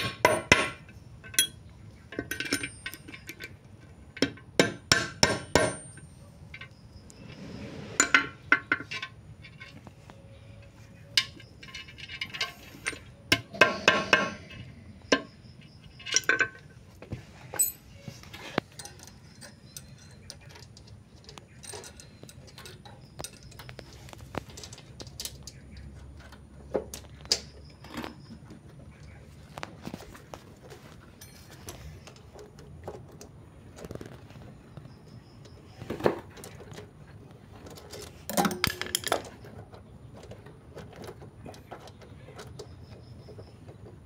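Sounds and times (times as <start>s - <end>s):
steel chain clinking and rattling: 0.0s - 28.3s, 29.9s - 32.3s, 36.3s - 41.8s.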